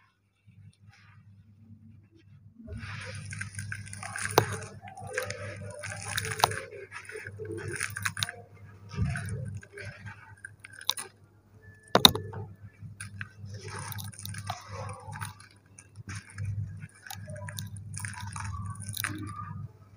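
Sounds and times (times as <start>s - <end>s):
steady low hum: 0.4s - 19.9s
dirt crumbling in a plastic sieve: 2.7s - 11.2s, 11.9s - 19.7s.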